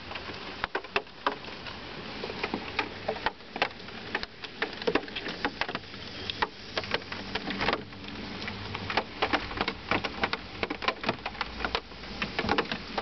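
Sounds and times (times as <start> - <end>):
raindrops hitting a hard shell: 0.0 - 13.0.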